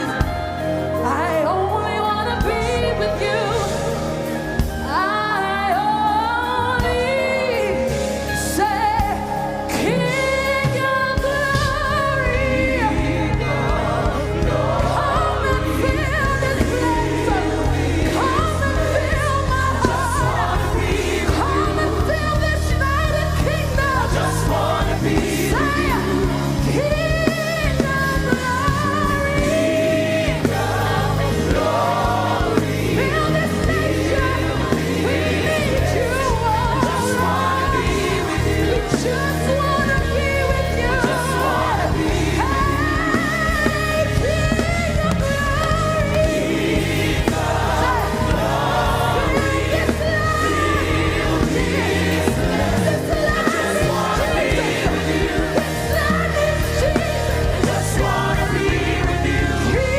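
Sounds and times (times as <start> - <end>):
band with steady bass line: 0.0 - 59.9
gospel singers holding notes: 0.0 - 59.9.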